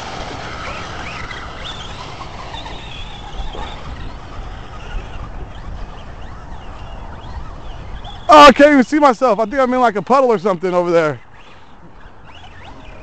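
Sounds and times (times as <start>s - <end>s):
electric motors whining: 0.0s - 13.0s
wind rumble on microphone: 0.0s - 13.0s.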